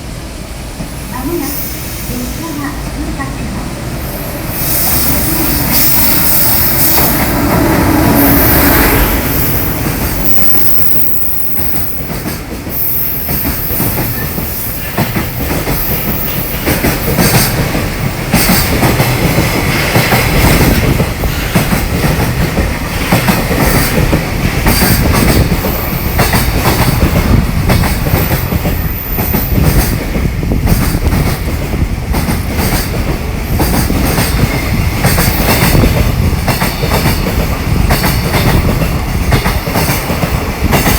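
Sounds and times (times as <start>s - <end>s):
freight train wheels clacking: 0.8s - 40.9s.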